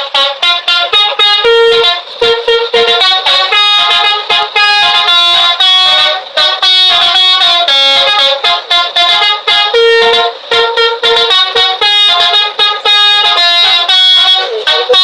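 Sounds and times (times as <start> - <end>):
bus musical horn melody: 0.0 - 15.0.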